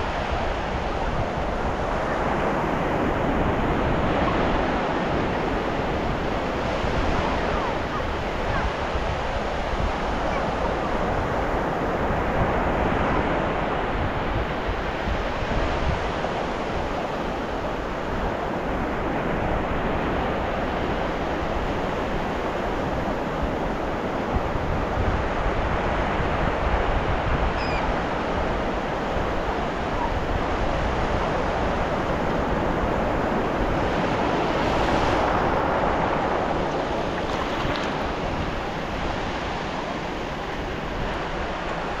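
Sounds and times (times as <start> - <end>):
ocean waves breaking on beach: 0.0 - 42.0.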